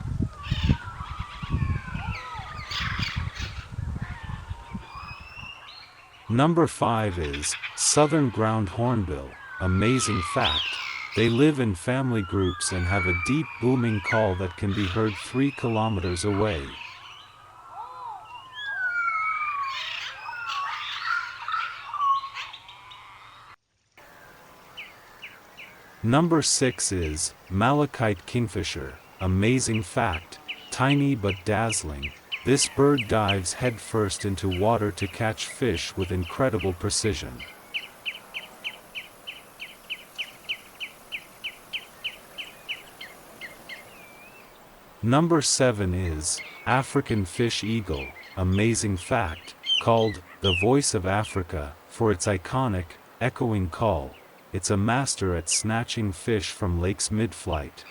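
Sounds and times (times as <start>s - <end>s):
bird chirps: 0.4s - 3.7s, 4.5s - 6.3s, 7.1s - 45.1s, 45.8s - 51.6s
kingfisher calling: 0.4s - 3.7s, 4.9s - 23.0s, 24.0s - 52.3s.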